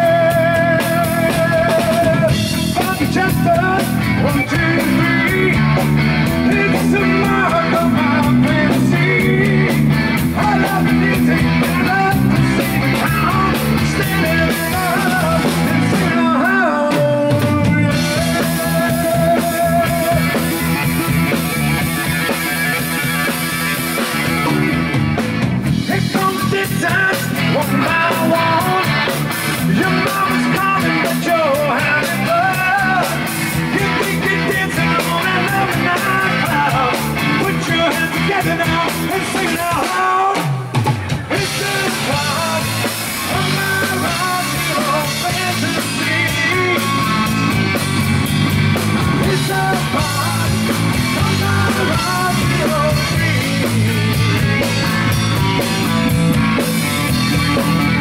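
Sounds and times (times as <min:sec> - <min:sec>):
man singing: 0:00.0 - 0:24.9, 0:25.7 - 0:58.0
drum kit: 0:00.0 - 0:58.0
electric guitar: 0:00.0 - 0:58.0.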